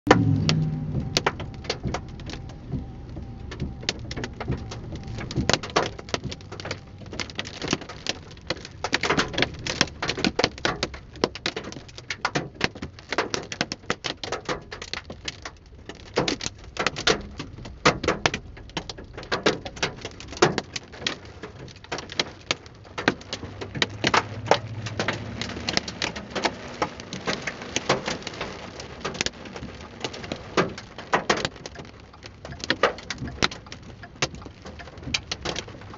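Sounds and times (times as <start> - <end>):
hailstones pelting a car: 0.1 - 35.9.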